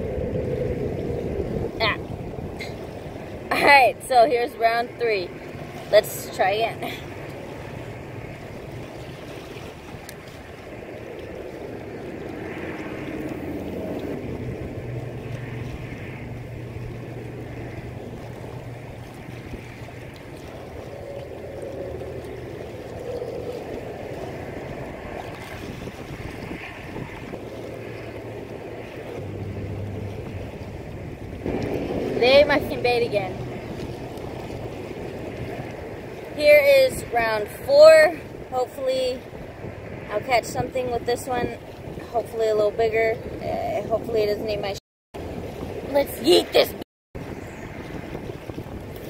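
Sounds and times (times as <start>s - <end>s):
low steady hum: 0.0s - 25.5s, 26.6s - 44.7s
waves lapping: 0.0s - 49.0s
wind buffeting microphone: 0.0s - 49.0s.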